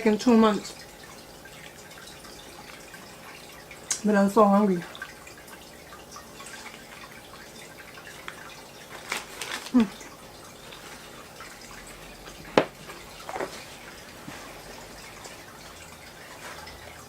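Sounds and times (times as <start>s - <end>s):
aquarium filter trickling: 0.0s - 17.0s.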